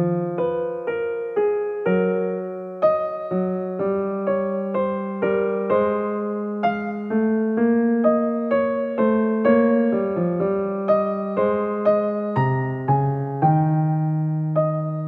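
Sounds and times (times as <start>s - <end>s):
electric piano melody: 0.0s - 15.0s.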